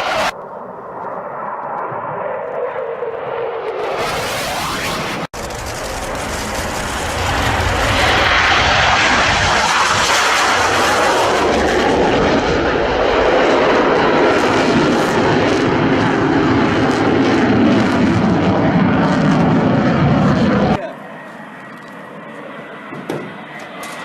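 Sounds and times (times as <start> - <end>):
fighter jet flyover: 0.0 - 24.0.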